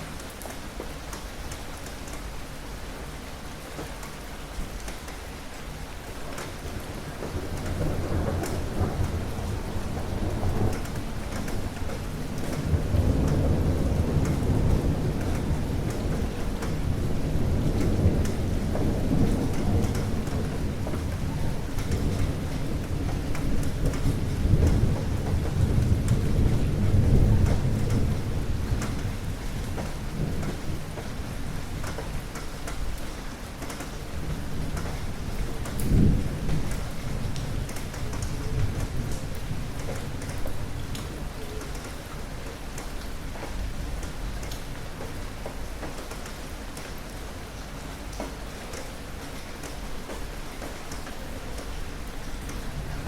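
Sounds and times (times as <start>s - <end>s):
steady rain: 0.0s - 53.0s
thunder rumbling: 6.2s - 46.0s, 46.6s - 53.0s.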